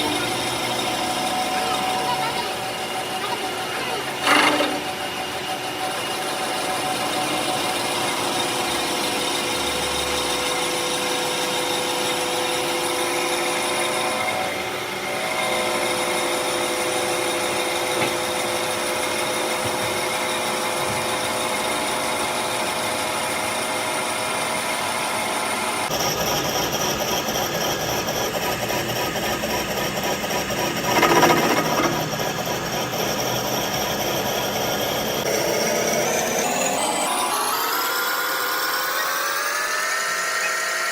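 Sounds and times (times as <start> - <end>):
power tool running: 0.0 - 40.9.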